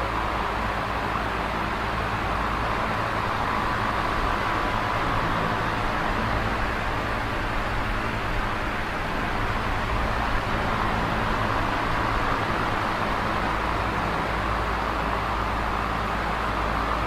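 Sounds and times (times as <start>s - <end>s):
box fan rushing air: 0.0s - 17.0s.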